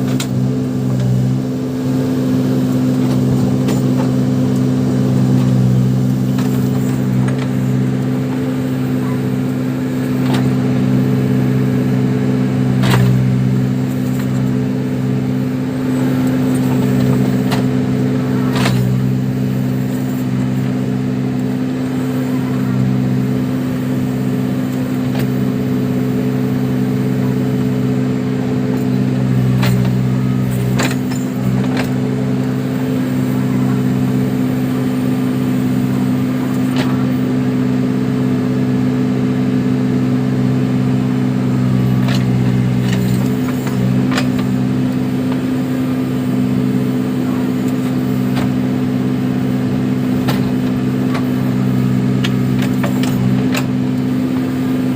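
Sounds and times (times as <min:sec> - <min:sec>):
backhoe diesel engine running: 0:00.0 - 0:54.9.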